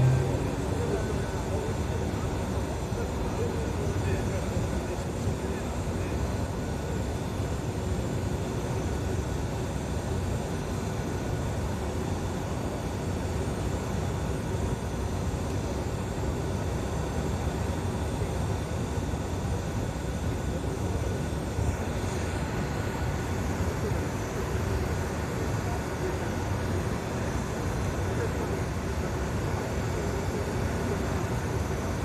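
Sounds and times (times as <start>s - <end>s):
engine droning steadily: 0.0s - 32.0s
faint whining tones: 0.0s - 32.0s.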